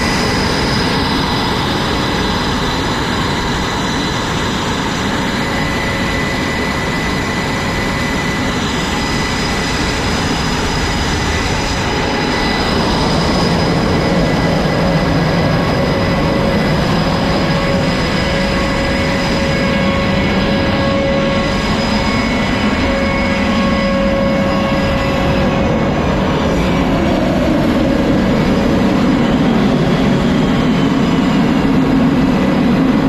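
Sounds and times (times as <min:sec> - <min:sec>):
high steady whine: 0:00.0 - 0:33.0
jet engines roaring: 0:00.0 - 0:33.0.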